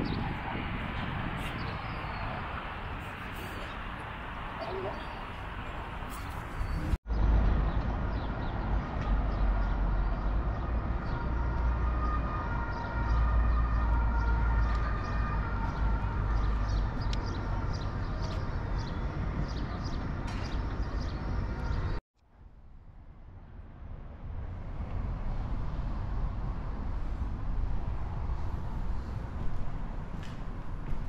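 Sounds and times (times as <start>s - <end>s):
distant road traffic: 0.0s - 31.0s
wind rumbling on microphone: 0.0s - 31.0s.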